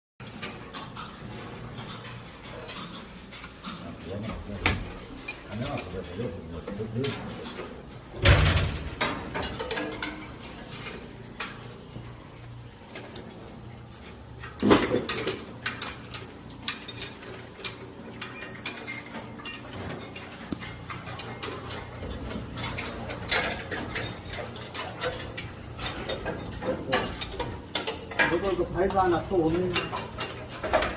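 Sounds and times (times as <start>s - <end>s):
metal tools clinking: 0.2s - 12.2s, 13.8s - 30.9s.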